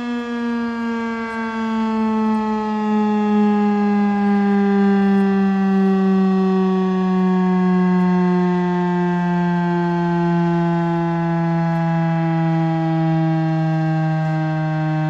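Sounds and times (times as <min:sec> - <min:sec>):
tornado warning siren: 0:00.0 - 0:15.0.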